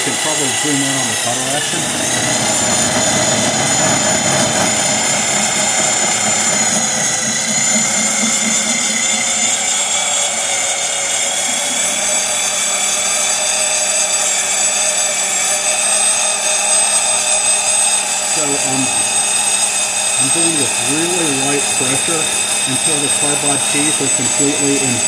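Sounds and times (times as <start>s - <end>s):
drill motor whining: 0.0s - 25.0s.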